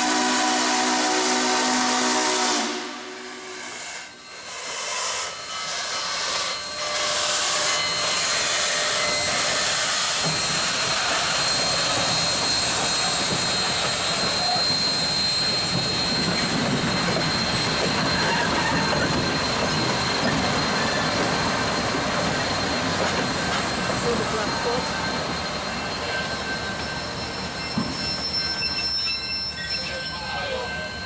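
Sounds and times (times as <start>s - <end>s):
wheels rumbling on rail: 0.0s - 31.0s
high wheel squeal: 3.2s - 31.0s.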